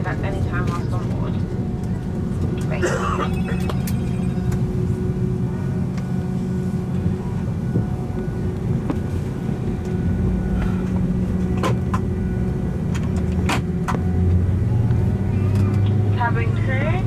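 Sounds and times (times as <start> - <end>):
airliner cabin hum: 0.0 - 17.0.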